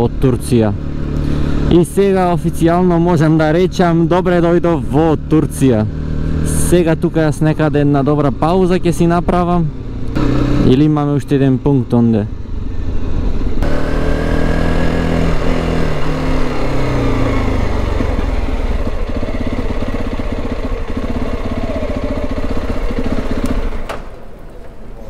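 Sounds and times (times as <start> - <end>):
motorcycle engine running: 0.0 - 11.6, 12.3 - 24.7.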